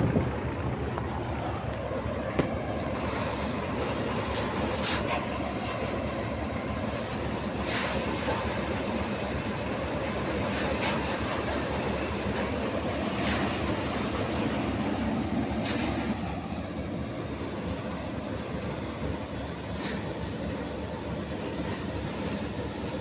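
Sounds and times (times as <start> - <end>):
thresher drum running: 0.0 - 23.0
tractor engine drone: 0.0 - 23.0.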